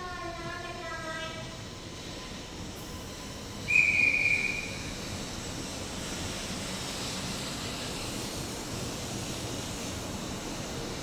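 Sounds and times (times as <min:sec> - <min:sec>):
passing train rushing: 0:00.0 - 0:11.0.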